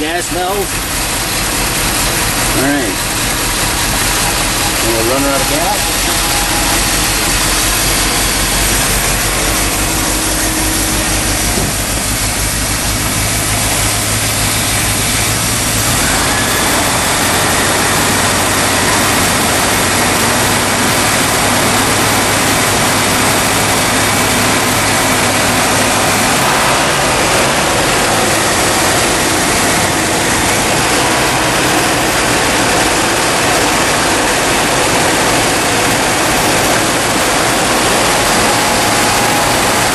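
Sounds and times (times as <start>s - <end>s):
steady rushing noise: 0.0s - 39.9s
truck engine running: 0.0s - 39.9s.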